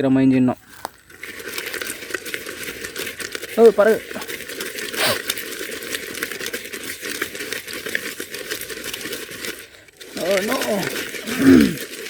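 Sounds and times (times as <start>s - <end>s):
lentils being ground by hand: 0.6s - 12.0s.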